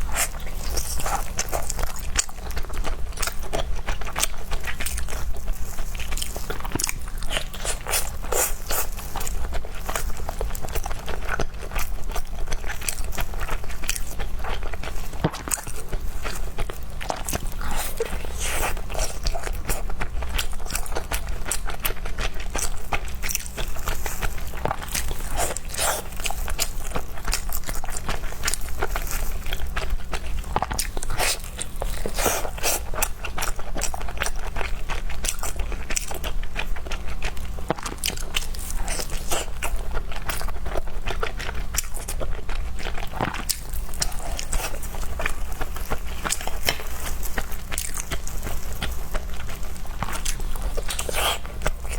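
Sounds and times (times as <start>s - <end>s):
person biting and chewing: 0.0s - 51.9s.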